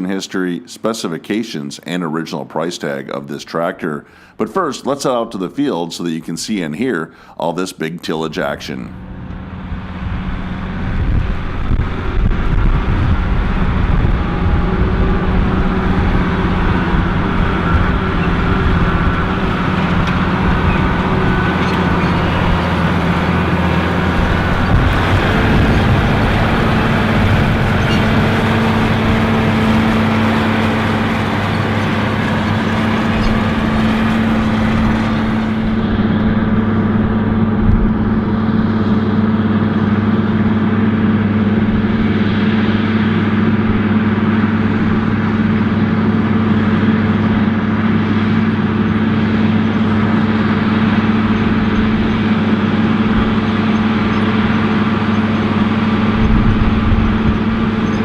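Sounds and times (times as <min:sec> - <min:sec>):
tractor diesel engine under load: 0:00.8 - 0:58.0.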